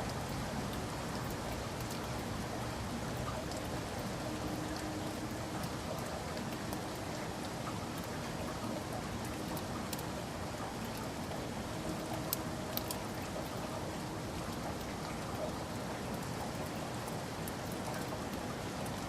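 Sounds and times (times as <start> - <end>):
raindrops ticking close by: 0.0 - 19.0
steady rainfall: 0.0 - 19.0.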